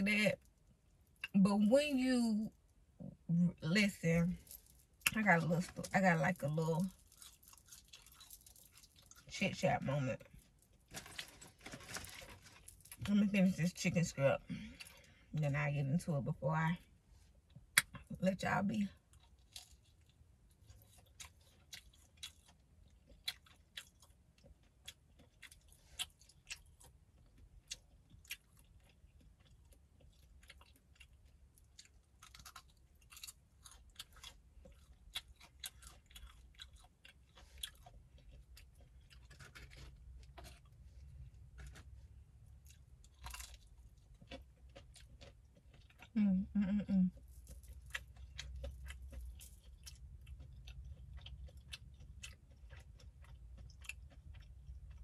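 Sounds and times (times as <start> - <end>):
chewing crispy fried chicken: 4.2 - 55.0.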